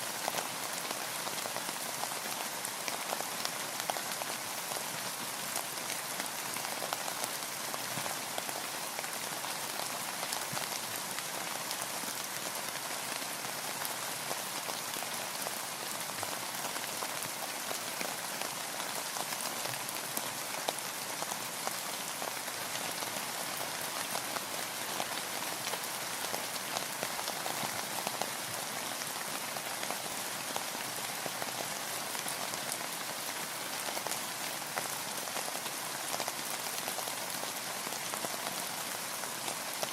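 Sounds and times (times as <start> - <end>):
rain pattering on a boat: 0.1 - 39.9.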